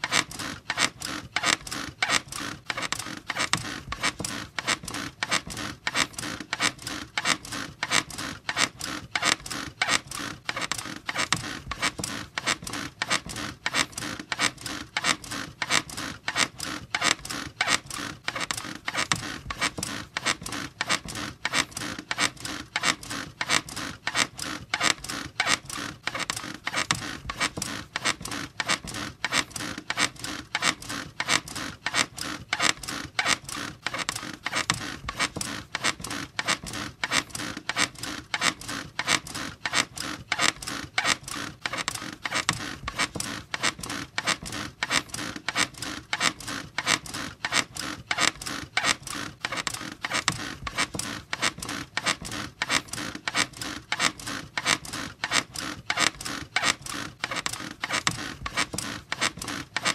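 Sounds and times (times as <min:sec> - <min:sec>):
bed squeaking rhythmically: 0:00.0 - 0:59.9.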